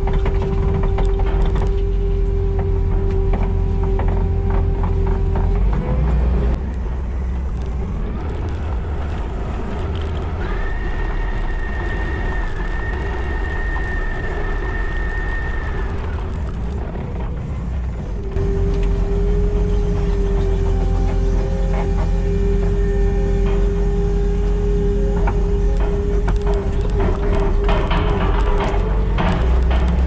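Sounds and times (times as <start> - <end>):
engine low rumble: 0.0 - 30.0
machine whine: 0.0 - 30.0.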